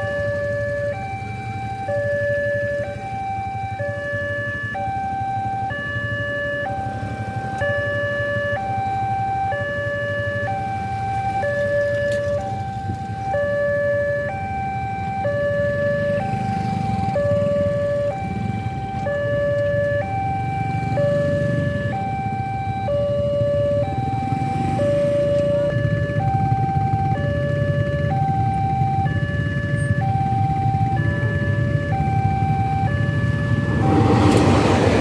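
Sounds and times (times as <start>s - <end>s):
motorcycle engines idling: 0.0s - 33.9s
two-tone crossing alarm: 0.0s - 35.0s.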